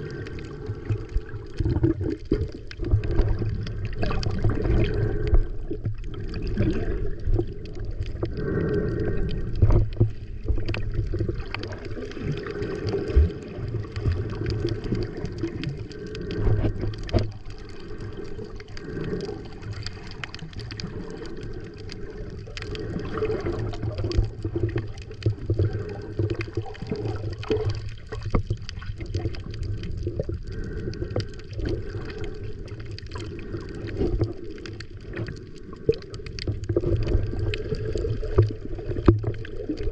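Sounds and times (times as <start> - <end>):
muffled water sloshing underwater: 0.0 - 39.9
small crackles and knocks: 0.0 - 39.9.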